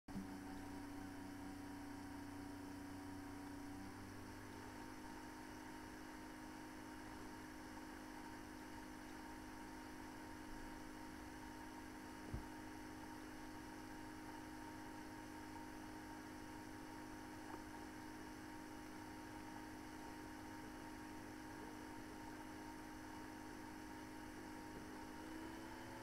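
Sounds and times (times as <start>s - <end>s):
electrical hum with hiss: 0.1s - 26.0s.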